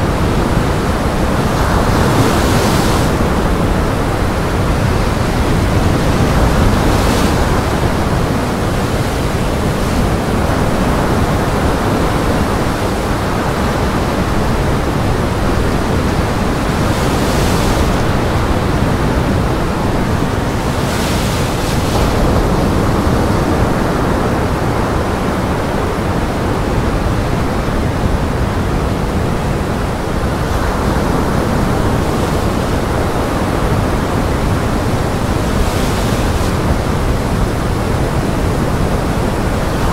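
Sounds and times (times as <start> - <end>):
breaking surf: 0.0 - 27.6, 28.4 - 39.9
strong gale wind: 0.0 - 39.9.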